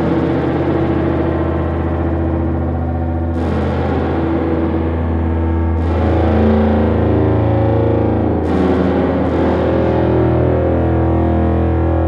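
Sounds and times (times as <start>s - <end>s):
deep steady hum: 0.0s - 12.0s
electronic drone music: 0.0s - 12.0s.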